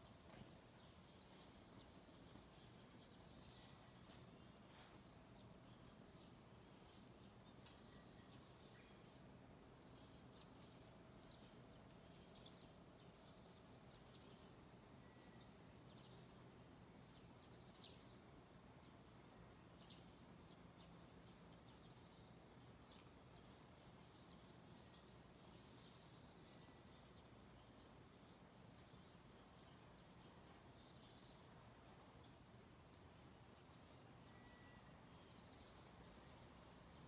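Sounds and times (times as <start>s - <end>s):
low steady hum: 0.0s - 37.0s
small birds chirping: 0.0s - 37.0s.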